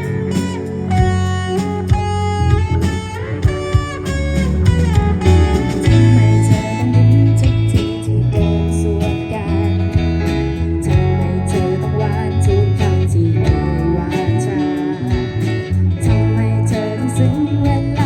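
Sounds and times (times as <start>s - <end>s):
band playing: 0.0s - 18.0s
guitar: 0.0s - 18.0s.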